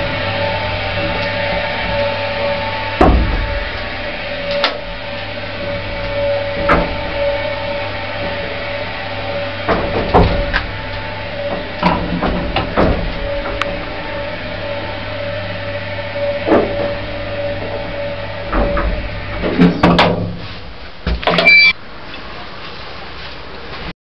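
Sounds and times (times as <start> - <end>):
lift clunks and clanks: 0.0 - 21.8
lift motor hum and whine: 0.0 - 22.1.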